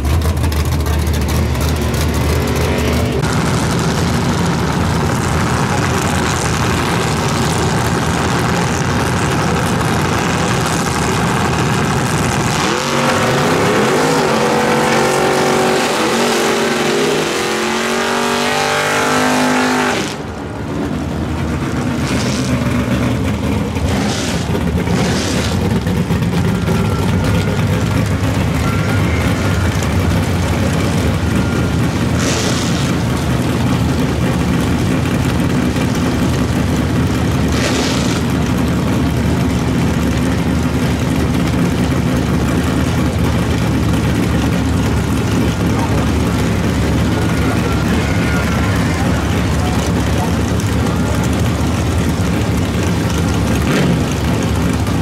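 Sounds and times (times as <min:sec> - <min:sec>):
drag car accelerating hard: 0:00.0 - 0:55.0
drag car engine idling: 0:00.0 - 0:55.0.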